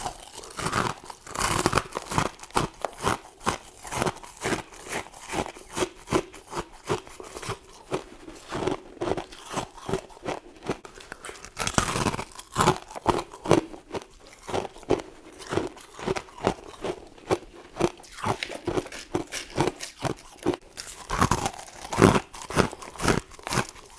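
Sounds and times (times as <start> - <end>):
chewing crunchy frost: 0.0 - 23.9.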